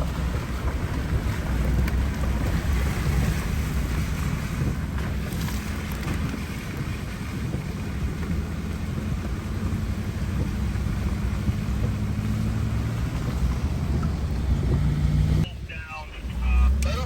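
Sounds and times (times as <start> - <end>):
wind on microphone: 0.0 - 15.4
vehicle engine humming: 0.0 - 17.0.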